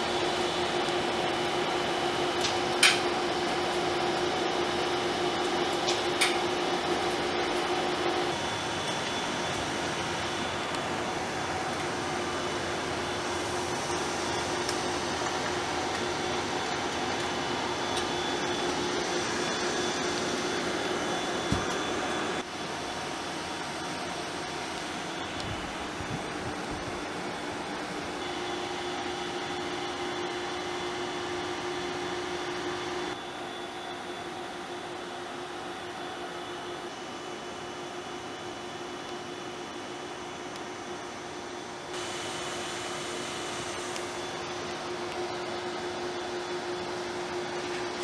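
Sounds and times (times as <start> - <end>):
film projector whirring: 0.0 - 48.0.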